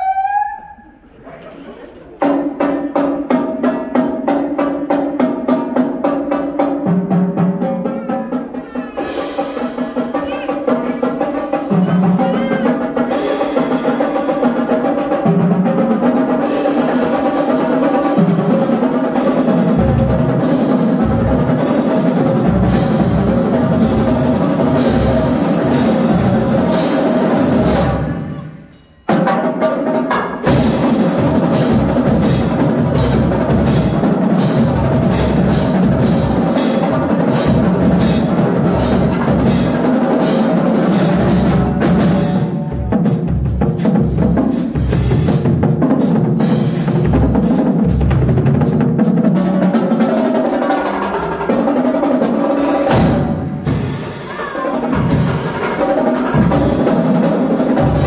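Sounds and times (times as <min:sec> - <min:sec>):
snare drum strokes and rolls: 0:02.2 - 0:28.4, 0:29.1 - 0:58.0.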